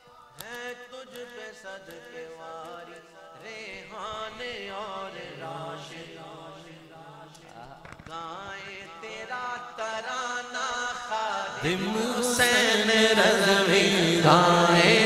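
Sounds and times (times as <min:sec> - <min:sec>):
men singing: 0:00.4 - 0:15.0.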